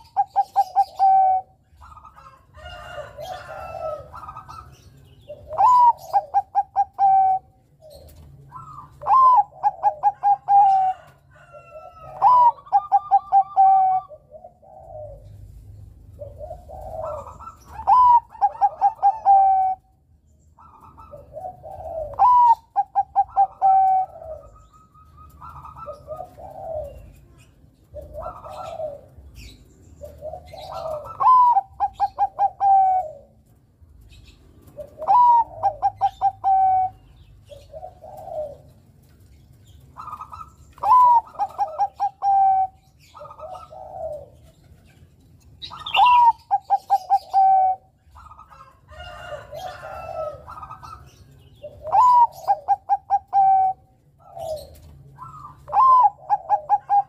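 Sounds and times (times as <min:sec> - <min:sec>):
softer lower dove coos: 0:00.0 - 0:20.0, 0:20.6 - 0:45.0, 0:45.6 - 0:57.0
dove singing: 0:00.0 - 0:57.0.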